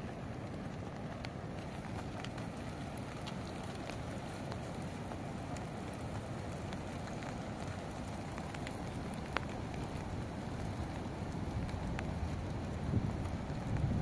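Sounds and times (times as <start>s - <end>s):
steady rain: 0.0s - 14.0s
wind rumble on microphone: 0.0s - 14.0s.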